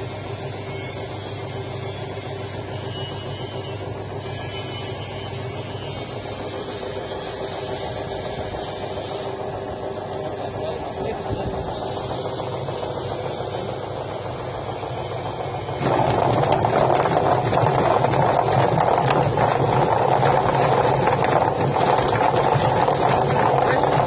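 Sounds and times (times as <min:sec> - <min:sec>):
plucking machine motor hum: 0:00.0 - 0:24.0.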